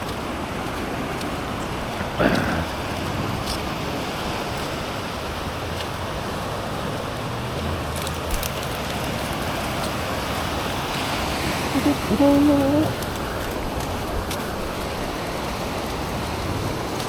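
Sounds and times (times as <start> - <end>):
sea surf: 0.0 - 17.0.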